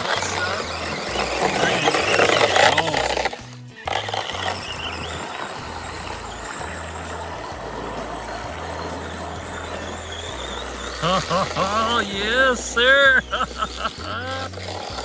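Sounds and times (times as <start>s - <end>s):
electric motor running: 0.0s - 15.0s.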